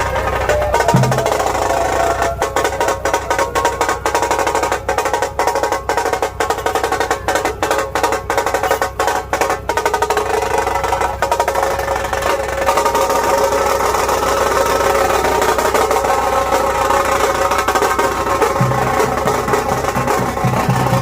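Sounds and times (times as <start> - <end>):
fast drum strokes: 0.0 - 21.0
sustained drone: 0.0 - 21.0.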